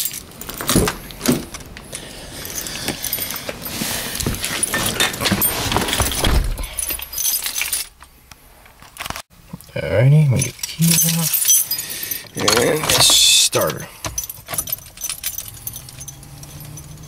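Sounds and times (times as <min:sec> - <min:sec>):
keys jingling: 0:00.0 - 0:08.1, 0:10.3 - 0:17.0.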